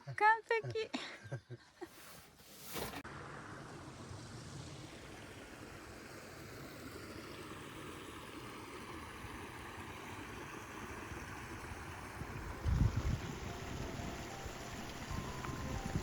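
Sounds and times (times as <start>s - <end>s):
flowing water rushing: 3.1s - 16.0s.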